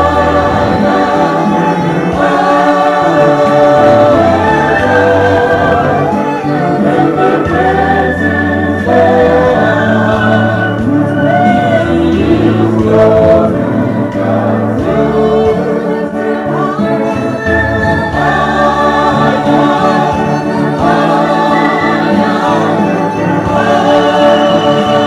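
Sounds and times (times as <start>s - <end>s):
group singing gospel in harmony: 0.0s - 25.0s.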